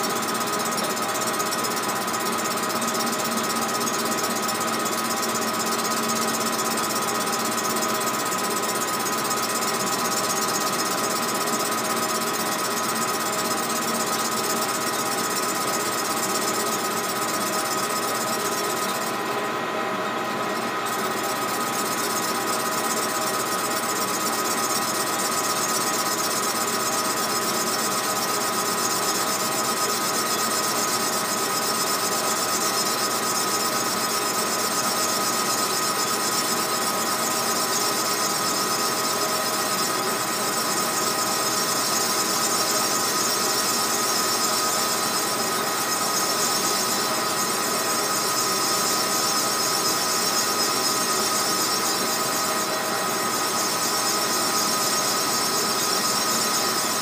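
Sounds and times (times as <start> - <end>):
metal lathe whining: 0.0 - 57.0.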